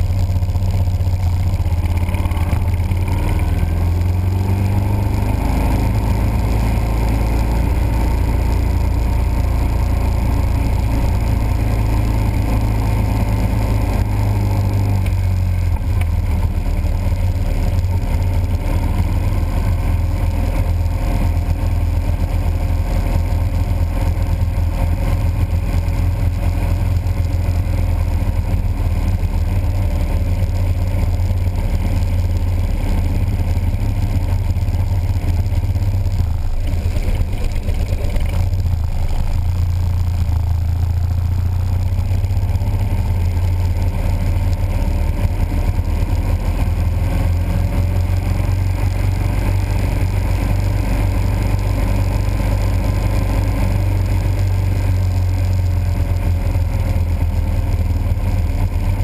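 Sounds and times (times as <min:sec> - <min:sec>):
motorcycle engines rumbling: 0:00.0 - 0:59.0.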